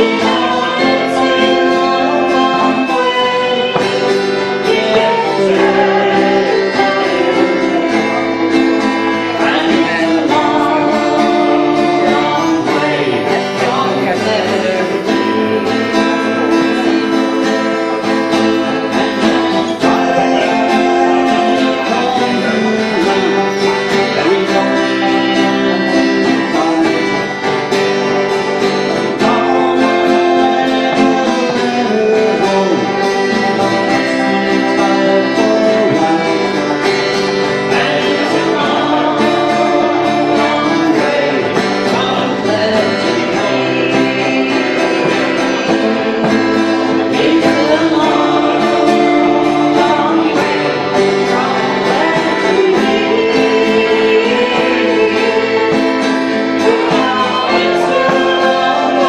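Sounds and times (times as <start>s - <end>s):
acoustic guitars strumming: 0.0s - 59.0s
person singing: 0.0s - 59.0s.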